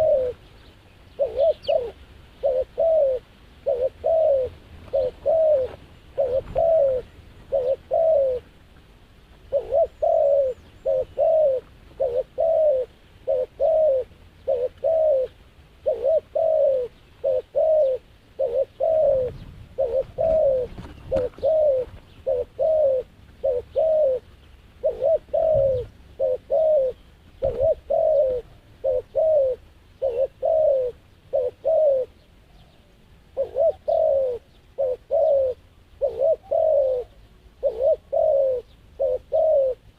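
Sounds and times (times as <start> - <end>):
dove cooing: 0.0 - 8.6, 9.4 - 39.9.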